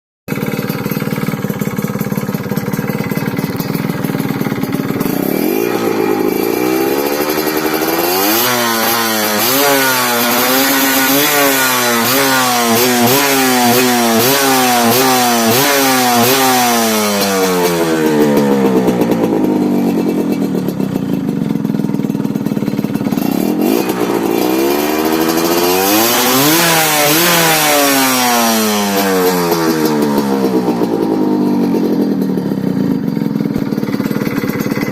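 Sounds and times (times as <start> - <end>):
two-stroke motorcycle engine revving: 0.3 - 34.9.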